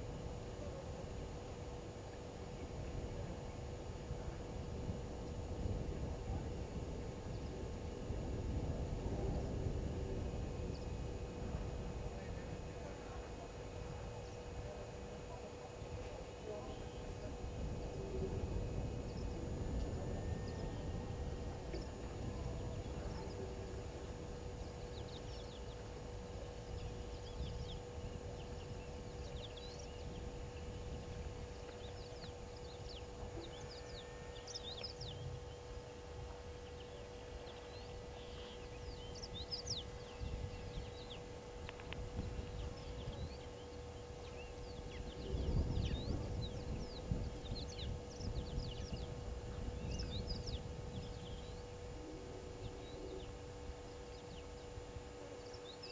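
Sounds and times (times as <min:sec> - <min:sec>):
steady hum: 0:00.0 - 0:55.9
wind rumble on microphone: 0:00.0 - 0:55.9.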